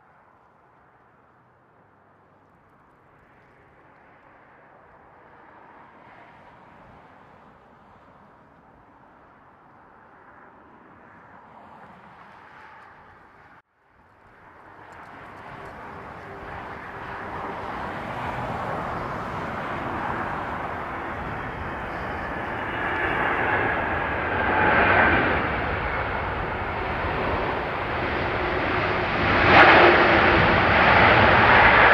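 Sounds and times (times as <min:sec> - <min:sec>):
jet engines rumble and whine: 0:00.0 - 0:31.9.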